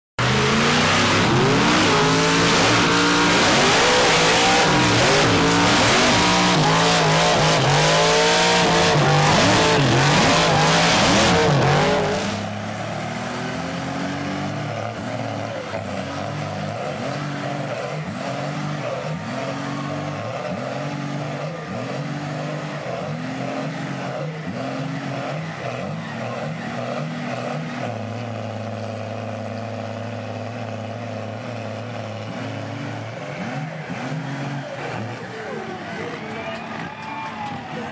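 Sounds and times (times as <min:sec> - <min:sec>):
tires spinning and squealing: 0:00.2 - 0:27.9, 0:32.3 - 0:37.9
engine rising and falling in pitch: 0:00.2 - 0:28.8, 0:31.8 - 0:37.9
truck engines revving: 0:00.2 - 0:37.9.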